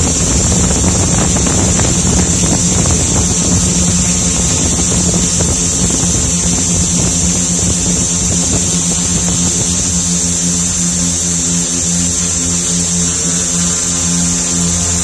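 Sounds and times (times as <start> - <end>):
drone motors humming and whining: 0.0 - 15.0.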